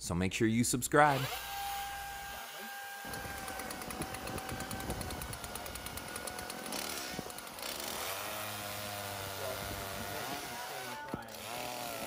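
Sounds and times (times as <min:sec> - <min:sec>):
chainsaw running: 0:01.0 - 0:12.0.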